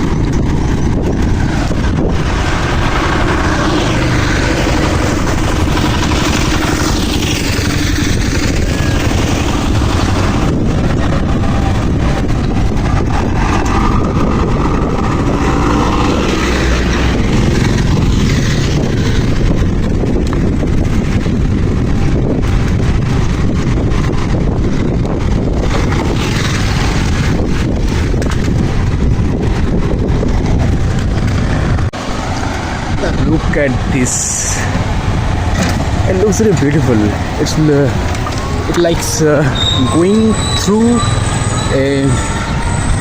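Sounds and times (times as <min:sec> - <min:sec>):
road and traffic noise: 0:00.0 - 0:43.0
wind rumble on microphone: 0:00.0 - 0:43.0.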